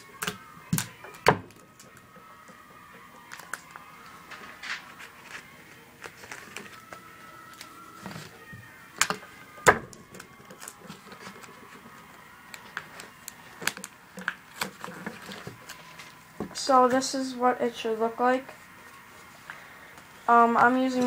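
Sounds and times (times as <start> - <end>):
paper and tape handling: 0.0 - 17.0.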